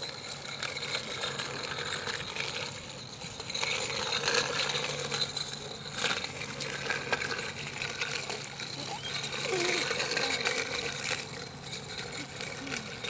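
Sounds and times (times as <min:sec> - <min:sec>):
bicycle clicks and rattles: 0:00.0 - 0:13.0
small bicycle rolling over asphalt: 0:00.0 - 0:13.0.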